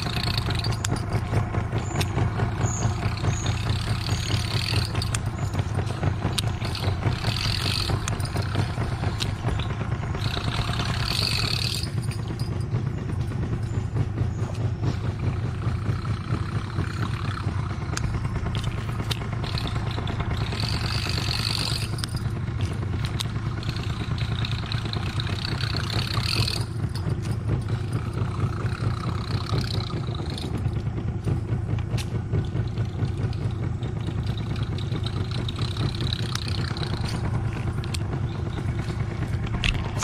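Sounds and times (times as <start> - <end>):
higher whir: 0.0 - 40.0
small boat engine humming: 0.0 - 40.0.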